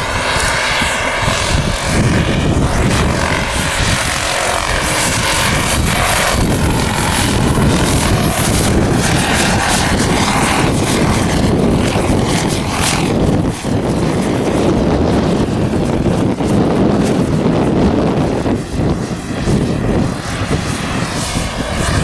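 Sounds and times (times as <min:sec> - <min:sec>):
model helicopter flying past: 0:00.0 - 0:22.0.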